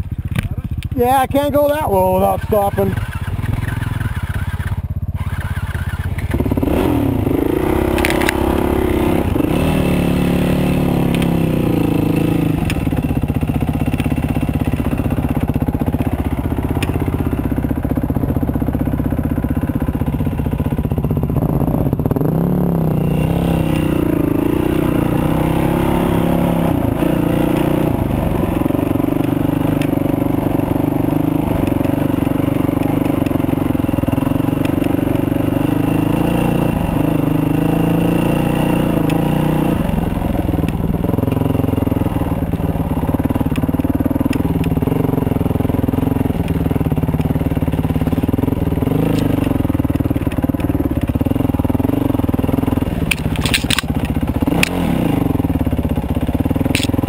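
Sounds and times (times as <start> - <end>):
dirt bike engine: 0.0 - 57.0.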